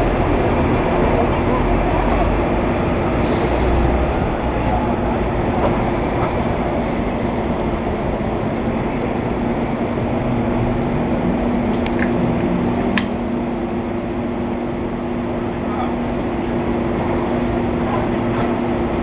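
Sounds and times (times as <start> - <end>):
cars passing: 0.0 - 19.0
constant low hum: 0.0 - 19.0.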